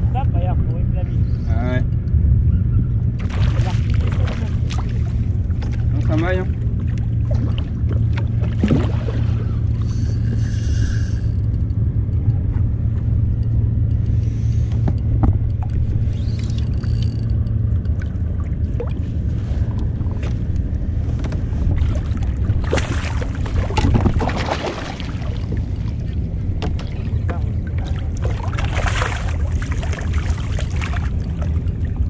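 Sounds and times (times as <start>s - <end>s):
low rumble: 0.0s - 32.0s
water splashing against hull: 3.1s - 32.0s.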